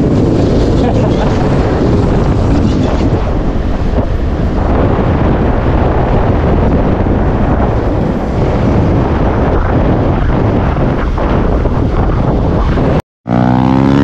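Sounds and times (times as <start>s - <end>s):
motorcycle running: 0.0s - 14.0s
wind rushing over microphone: 0.0s - 14.0s.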